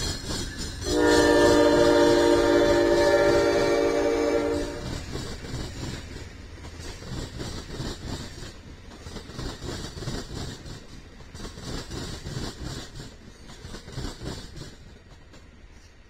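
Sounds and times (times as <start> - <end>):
train wheels clacking over rail joints: 0.0 - 16.0.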